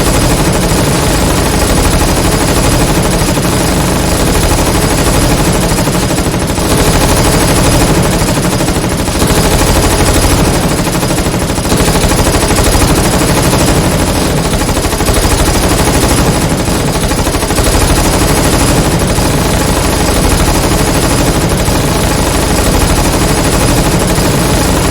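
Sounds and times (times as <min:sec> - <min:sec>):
automatic submachine gun fire: 0:00.0 - 0:24.9.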